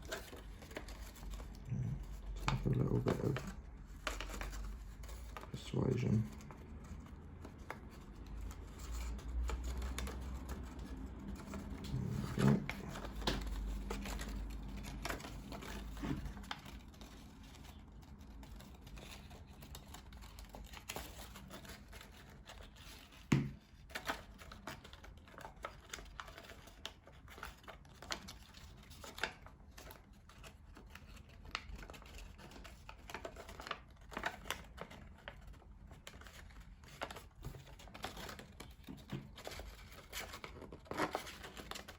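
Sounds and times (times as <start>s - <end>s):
paper rustling and crinkling: 0.0s - 41.9s.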